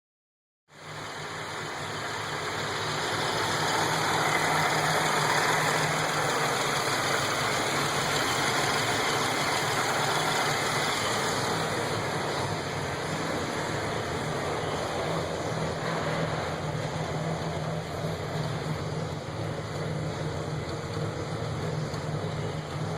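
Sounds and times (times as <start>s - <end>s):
car engine idling: 0.7s - 22.9s.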